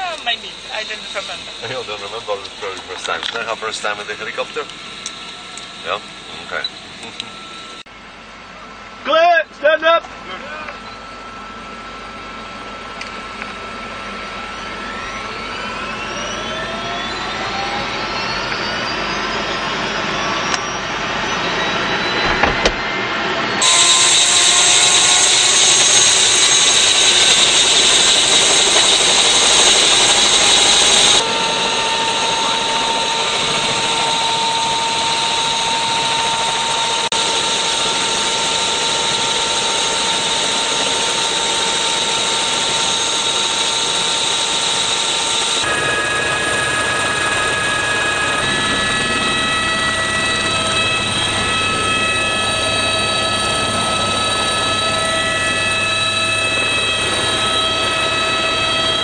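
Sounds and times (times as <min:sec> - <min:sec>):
helicopter rotor noise: 0:00.0 - 0:07.9, 0:09.0 - 0:59.0
helicopter turbine whine: 0:00.0 - 0:59.0.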